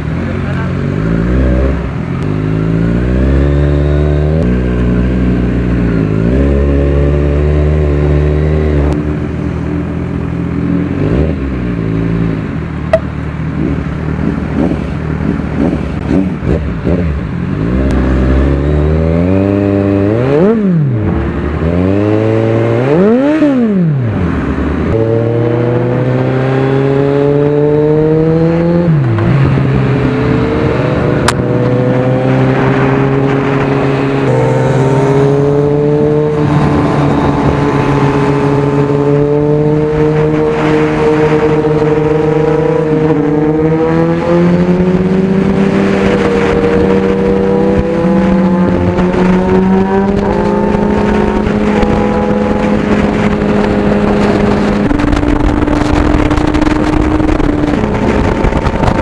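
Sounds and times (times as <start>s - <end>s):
engine revving: 0.0s - 9.2s, 10.6s - 59.0s
motorcycle engine accelerating: 0.0s - 59.0s.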